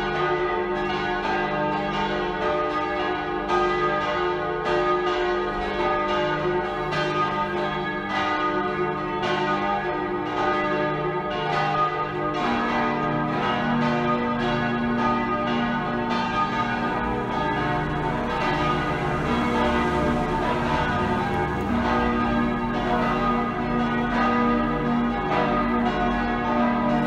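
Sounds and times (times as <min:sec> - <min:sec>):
church bells ringing: 0:00.0 - 0:27.0.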